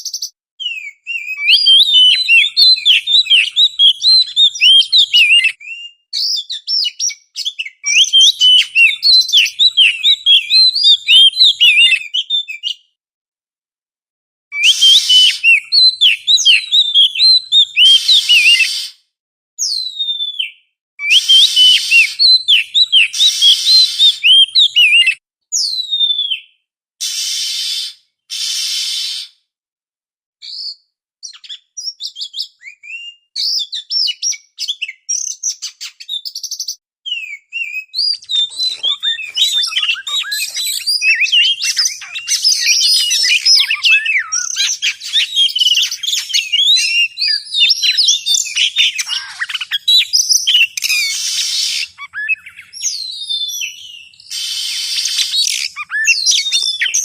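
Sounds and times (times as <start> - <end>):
bird song with whistled notes: 0.0 - 13.0, 14.6 - 19.0, 19.6 - 29.4, 30.4 - 57.0.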